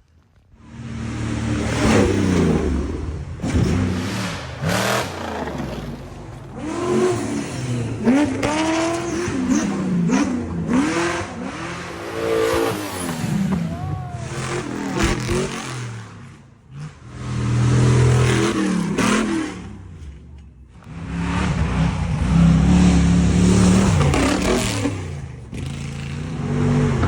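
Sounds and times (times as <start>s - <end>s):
truck engine revving hard: 0.6s - 19.9s, 20.8s - 27.0s.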